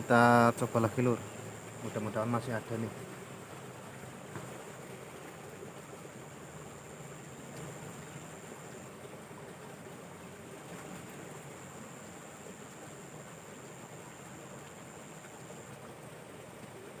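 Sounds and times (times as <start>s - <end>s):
water flowing: 0.0s - 17.0s.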